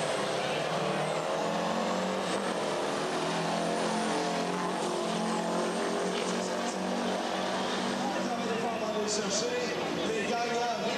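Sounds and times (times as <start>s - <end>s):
diesel truck engines at full throttle: 0.0s - 10.9s.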